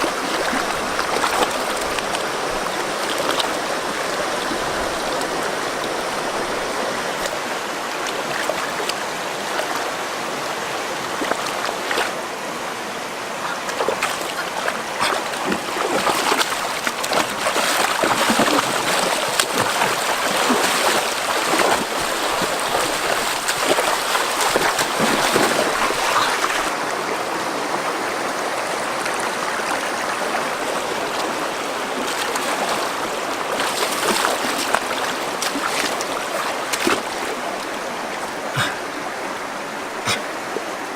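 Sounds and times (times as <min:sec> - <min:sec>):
small water splashes: 0:00.0 - 0:12.2, 0:13.3 - 0:26.9, 0:28.7 - 0:38.8
river water running: 0:00.0 - 0:40.9.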